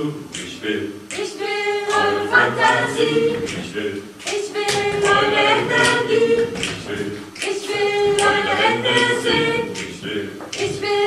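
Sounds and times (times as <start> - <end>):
voices singing a cappella: 0.0 - 11.0.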